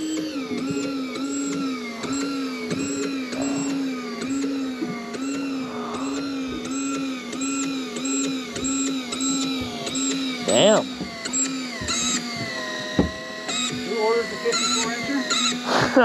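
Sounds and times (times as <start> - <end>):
fishing reel gears whining: 0.0 - 16.0.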